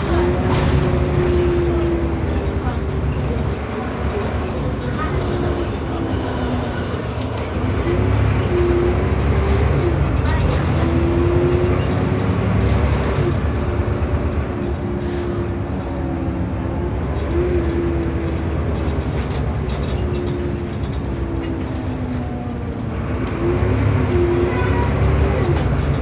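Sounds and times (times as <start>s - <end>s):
bus engine rumble: 0.0s - 26.0s.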